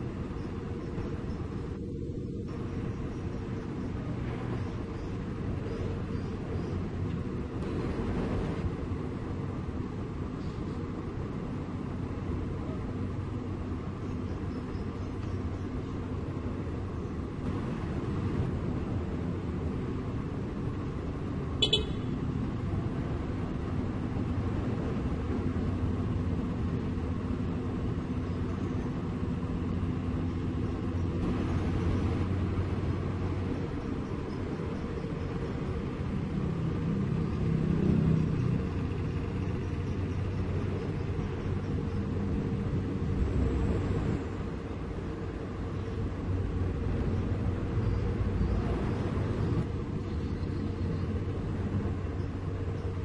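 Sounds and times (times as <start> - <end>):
diesel excavator engine running: 0.0 - 53.0.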